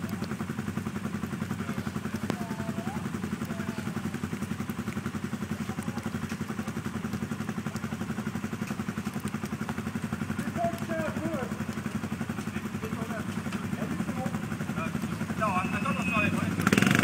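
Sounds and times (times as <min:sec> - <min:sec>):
quad bike engine idling: 0:00.0 - 0:17.0.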